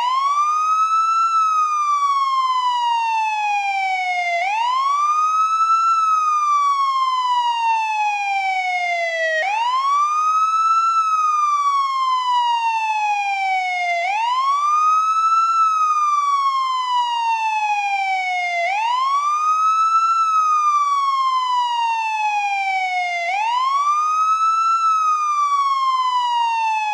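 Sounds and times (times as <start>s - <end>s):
police siren wailing: 0.0s - 26.9s.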